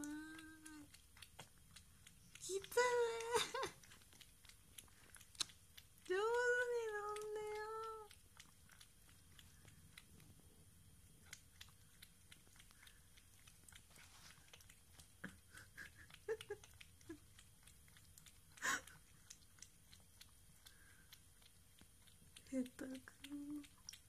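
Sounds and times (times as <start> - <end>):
cat lapping water: 0.0 - 24.0.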